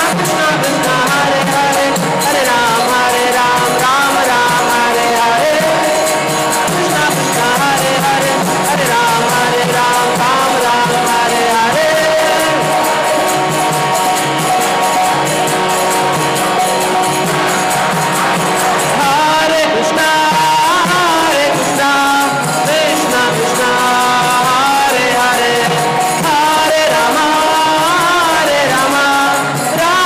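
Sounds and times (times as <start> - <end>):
harmonium melody: 0.0 - 30.0
percussion beat: 0.0 - 30.0.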